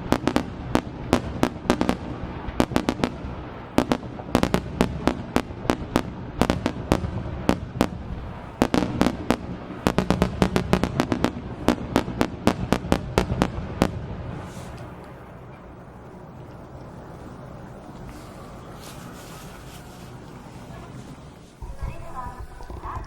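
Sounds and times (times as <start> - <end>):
fireworks bangs: 0.0 - 23.0
low rumbling echo: 0.0 - 23.0.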